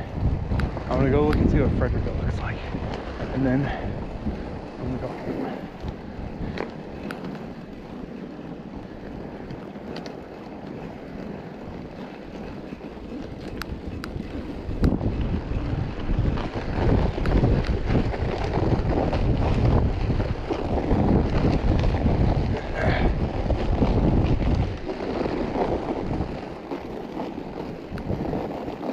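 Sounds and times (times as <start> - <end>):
wind rumbling on microphone: 0.0 - 28.9.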